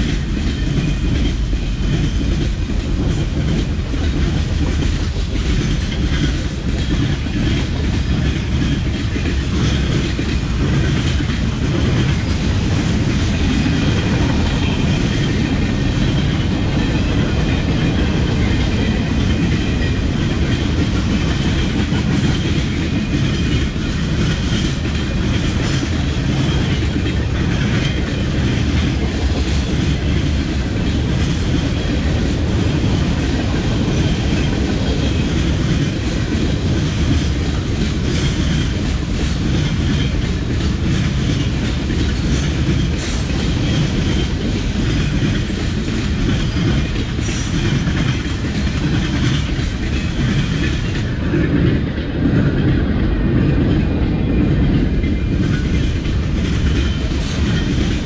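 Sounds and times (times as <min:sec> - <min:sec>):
freight train wheels clattering: 0:00.0 - 0:58.0.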